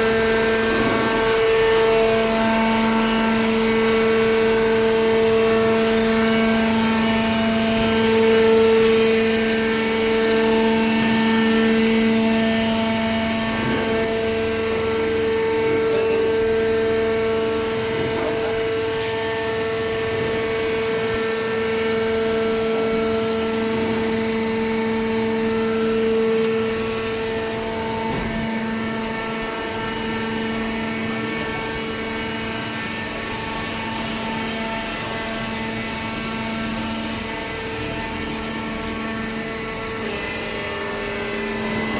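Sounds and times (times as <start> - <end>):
baler motor drone: 0.0 - 41.9.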